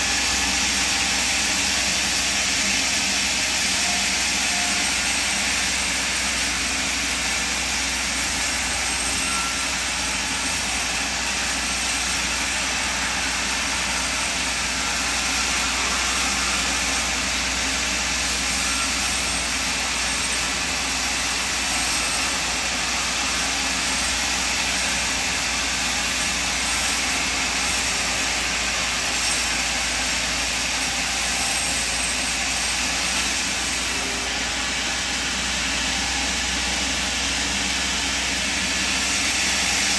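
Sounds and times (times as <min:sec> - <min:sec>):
band sawmill whirring: 0:00.0 - 0:39.9.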